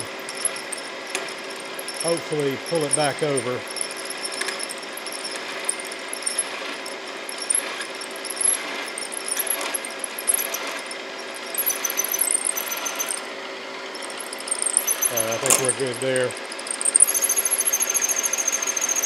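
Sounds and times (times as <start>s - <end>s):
drill bit squealing: 0.0s - 13.3s, 14.0s - 19.0s
milling machine drilling metal: 0.0s - 13.3s, 13.9s - 19.0s.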